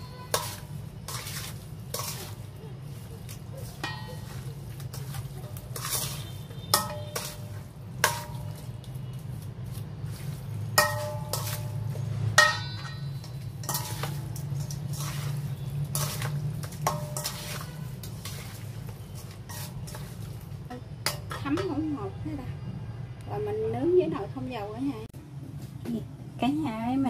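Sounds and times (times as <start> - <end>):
spoon scraping metal bowl: 0.0 - 21.7.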